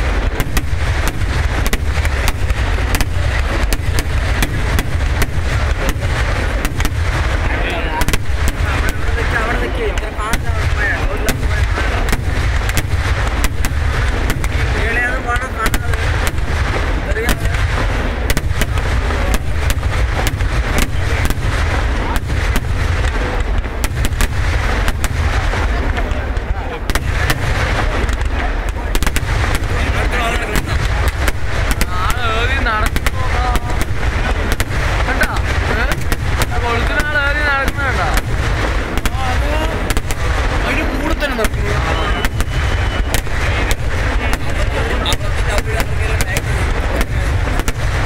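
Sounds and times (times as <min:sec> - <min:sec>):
fireworks bangs: 0:00.0 - 0:48.0
heavy rumble of blasts: 0:00.0 - 0:48.0.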